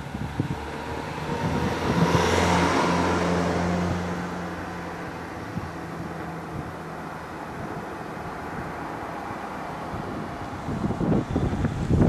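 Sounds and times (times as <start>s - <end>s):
engine noise: 0.0s - 12.0s.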